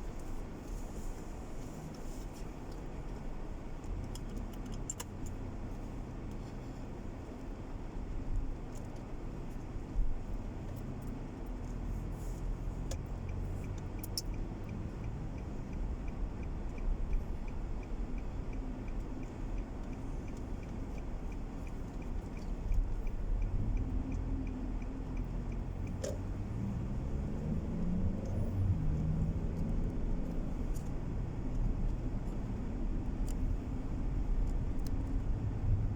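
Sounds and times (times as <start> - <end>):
low rumble of car cabin: 0.0 - 35.9
turn signal ticking: 0.1 - 35.9.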